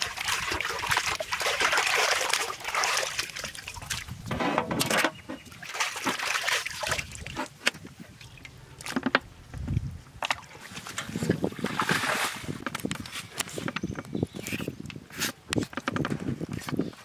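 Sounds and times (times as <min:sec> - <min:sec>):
water sloshing and splashing: 0:00.0 - 0:14.7.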